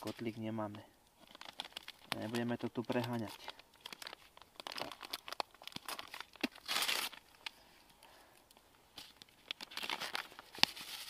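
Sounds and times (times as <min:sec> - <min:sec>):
sachet rustling: 0:00.0 - 0:08.2, 0:08.9 - 0:11.0
aluminium foil crinkling: 0:00.0 - 0:11.0.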